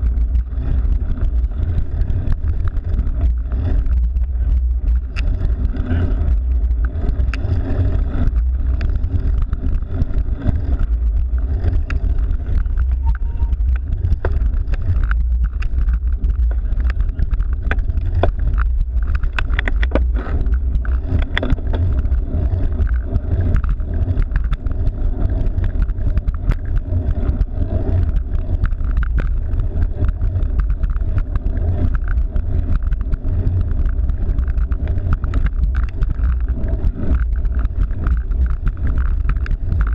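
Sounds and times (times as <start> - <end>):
bicycle road and wind rumble: 0.0 - 39.9
small clicks and rattles: 0.0 - 39.9.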